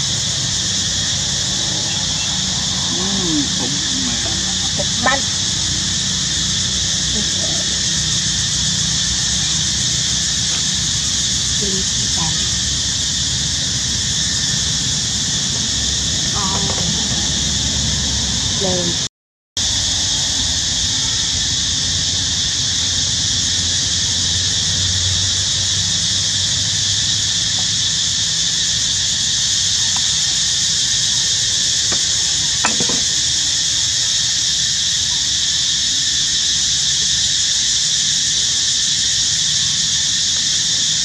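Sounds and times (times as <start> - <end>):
high-pitched hiss: 0.0 - 19.0, 19.6 - 41.0.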